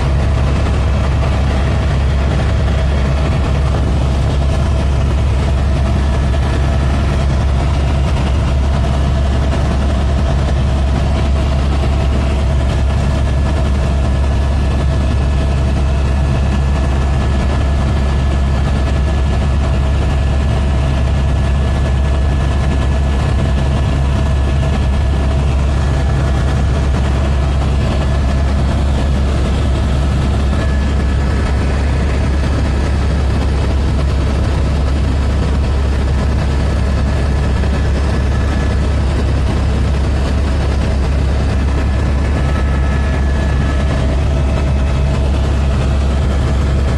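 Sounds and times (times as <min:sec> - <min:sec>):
helicopter droning: 0:00.0 - 0:46.9.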